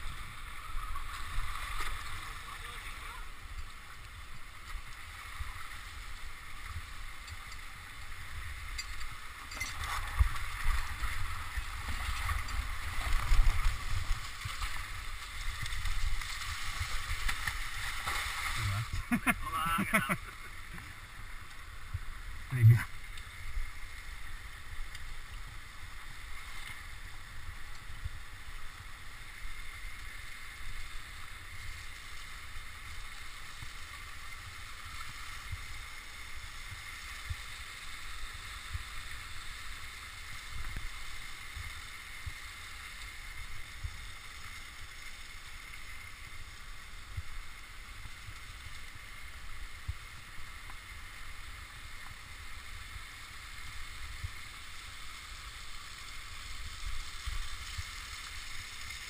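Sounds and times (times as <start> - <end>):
waterfall rushing over rock: 9.7 - 59.0.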